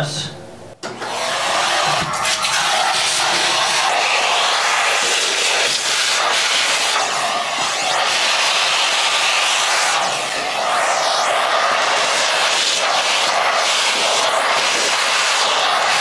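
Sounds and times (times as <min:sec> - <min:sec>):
vacuum cleaner sucking up sawdust: 0:00.9 - 0:16.0.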